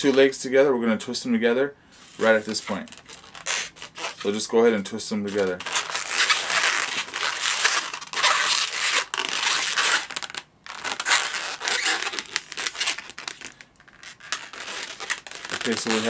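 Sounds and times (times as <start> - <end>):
balloons rubbing and scraping: 2.0 - 16.0.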